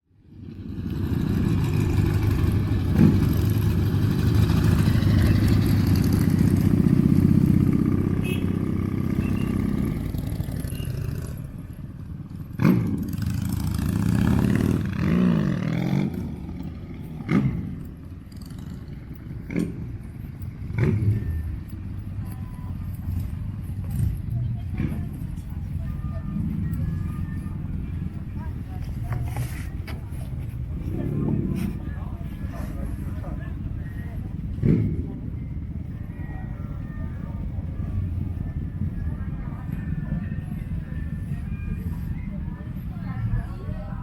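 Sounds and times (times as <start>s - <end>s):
motorcycle engines running: 0.2s - 44.0s.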